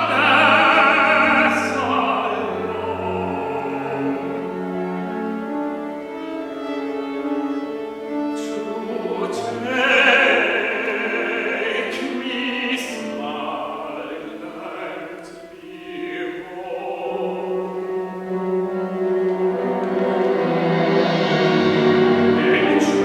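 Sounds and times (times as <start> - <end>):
operatic voice singing: 0.0 - 5.0, 8.4 - 18.4, 19.5 - 23.0.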